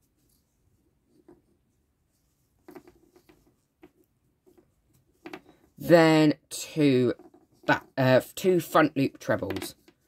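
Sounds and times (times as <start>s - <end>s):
crochet hook scratching yarn: 0.0s - 10.0s.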